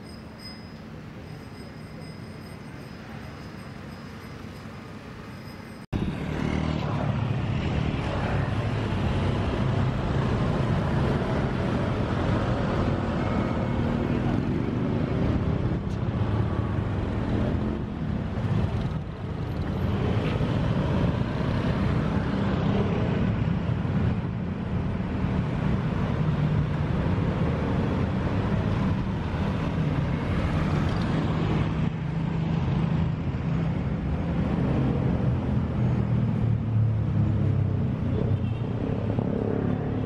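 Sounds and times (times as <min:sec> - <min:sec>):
road traffic hum: 0:00.0 - 0:40.0.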